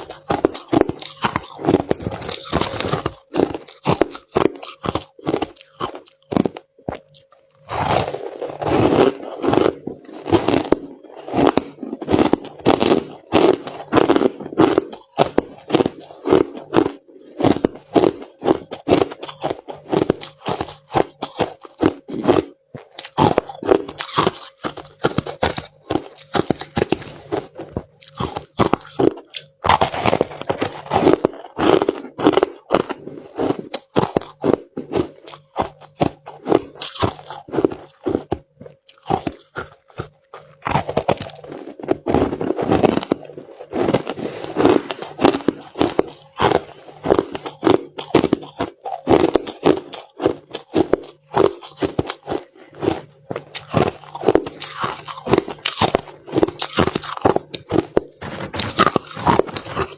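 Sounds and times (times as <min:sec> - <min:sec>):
person chewing crushed ice: 0:00.0 - 0:59.9.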